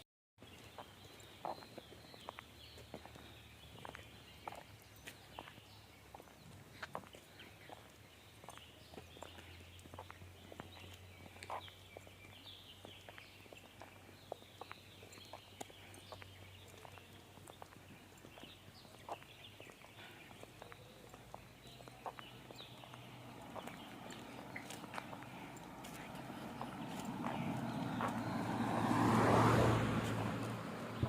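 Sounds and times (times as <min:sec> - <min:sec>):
faint birdsong chirps: 0:00.4 - 0:31.0.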